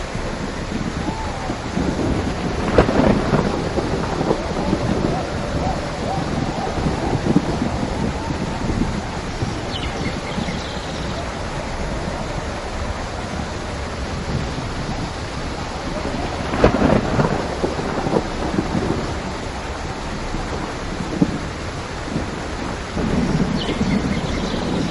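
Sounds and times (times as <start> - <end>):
heavy rain: 0.0 - 24.9
thunderclap: 0.0 - 24.9.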